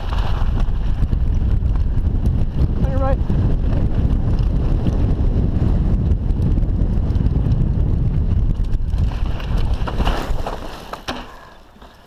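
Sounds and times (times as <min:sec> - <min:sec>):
wind buffeting microphone: 0:00.0 - 0:11.0
bike tyres rattling on gravel: 0:00.0 - 0:12.0.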